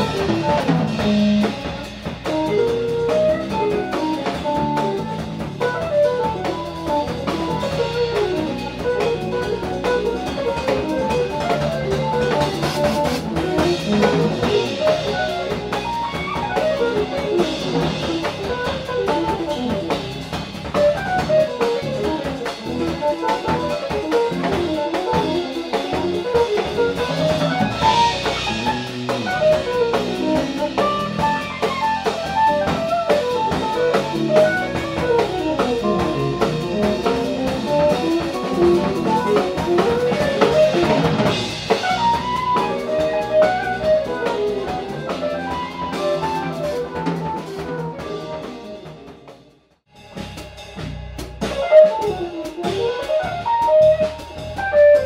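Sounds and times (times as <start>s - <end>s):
jazz fusion band playing: 0.0s - 55.0s.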